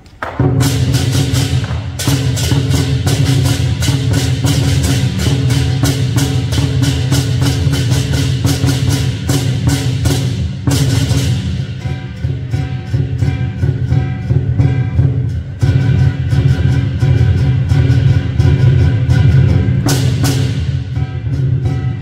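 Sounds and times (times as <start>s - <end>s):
large drum beating: 0.2s - 22.0s
fast cymbal clashes: 0.6s - 22.0s.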